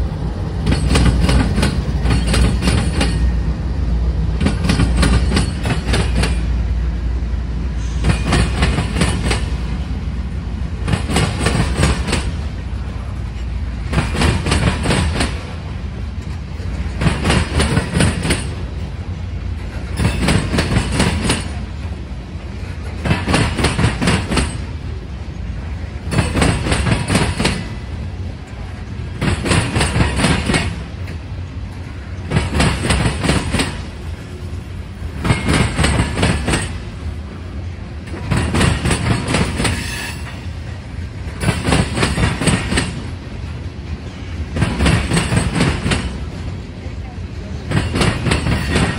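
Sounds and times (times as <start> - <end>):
train wheels clattering over crossing: 0.0 - 7.0, 7.6 - 48.9
rumble of rolling freight cars: 0.0 - 48.9.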